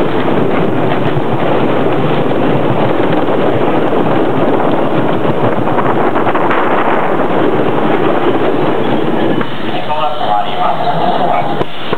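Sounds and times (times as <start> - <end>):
roller coaster wheels on track: 0.0 - 11.9
wind on microphone: 0.0 - 11.9.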